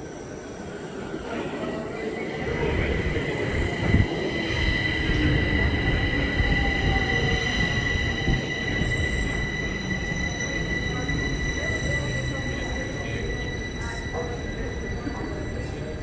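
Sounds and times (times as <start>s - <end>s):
train high whine: 0.0s - 16.0s
train low rumble: 1.8s - 16.0s.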